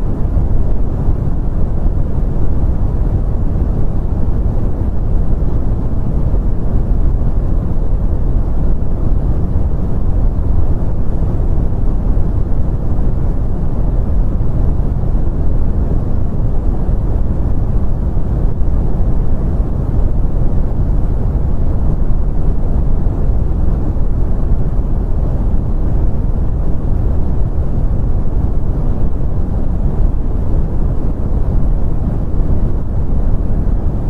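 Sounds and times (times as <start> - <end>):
brown noise hiss: 0.0 - 34.0.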